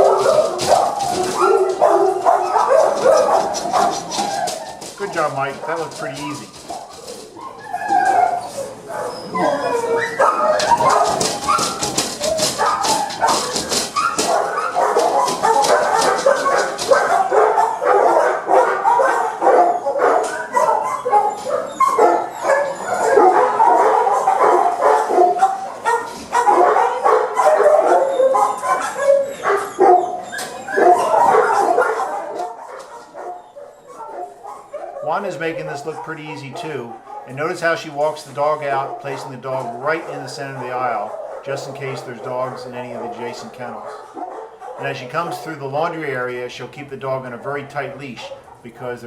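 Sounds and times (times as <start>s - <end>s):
dogs barking and whining: 0.0s - 46.3s, 47.3s - 48.7s.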